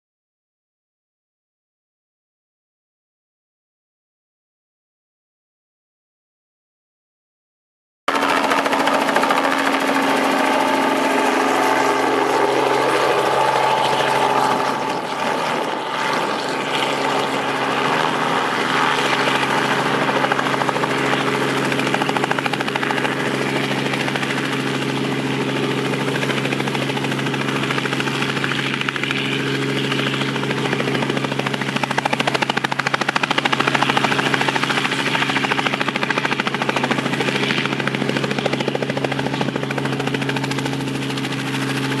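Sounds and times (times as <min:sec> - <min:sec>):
helicopter rotor and engine drone: 0:08.1 - 0:42.0.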